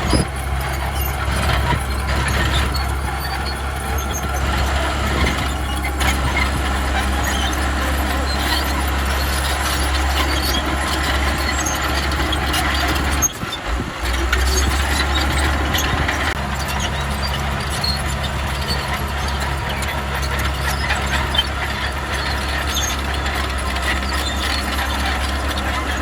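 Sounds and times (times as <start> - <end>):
diesel earthmover engine running: 0.0 - 26.0.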